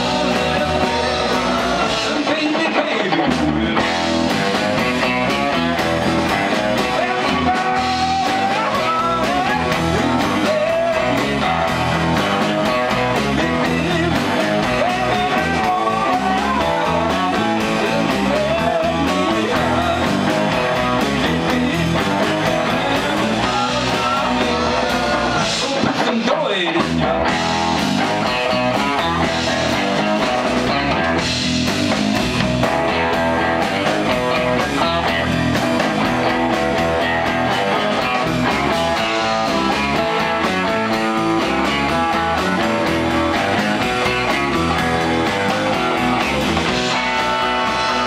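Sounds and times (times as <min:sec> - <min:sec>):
lead guitar melody bending: 0:00.0 - 0:25.7, 0:26.8 - 0:48.0
live rock band playing: 0:00.0 - 0:48.0.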